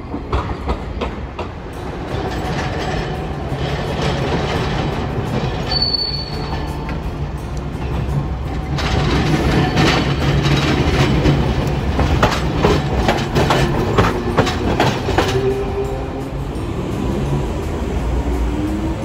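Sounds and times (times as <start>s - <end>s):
streetcar rumble: 0.0s - 19.0s
streetcar wheels clacking: 0.0s - 19.0s.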